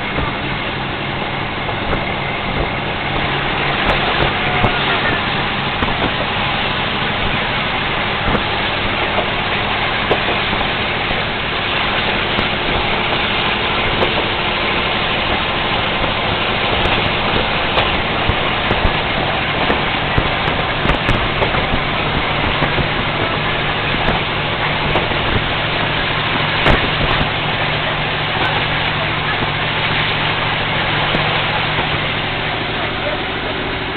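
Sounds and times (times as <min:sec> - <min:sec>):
railcar diesel engine running: 0:00.0 - 0:33.9
train running noise: 0:00.0 - 0:33.9.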